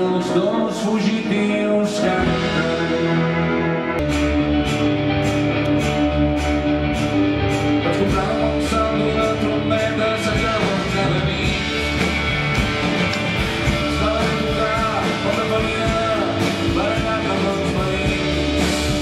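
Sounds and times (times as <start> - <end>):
pop-rock band playing: 0.0 - 19.0.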